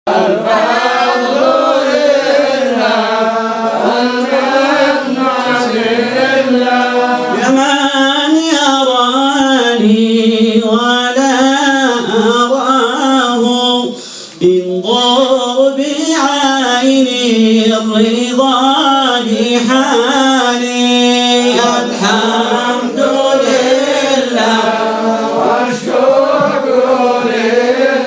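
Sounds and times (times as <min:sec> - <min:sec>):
man chanting a devotional song: 0:00.4 - 0:28.0.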